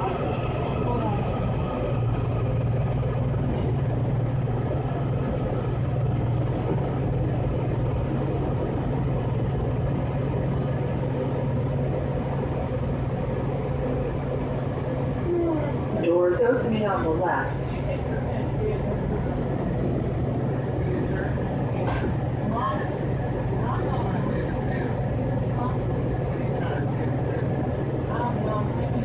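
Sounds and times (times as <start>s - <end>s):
subway car rumble: 0.0s - 29.0s.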